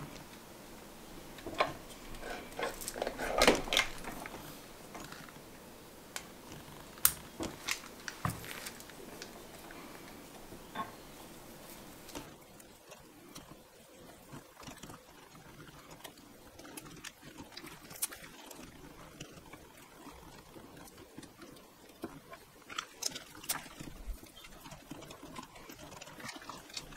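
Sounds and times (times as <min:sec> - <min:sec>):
rustling: 0:00.0 - 0:26.9.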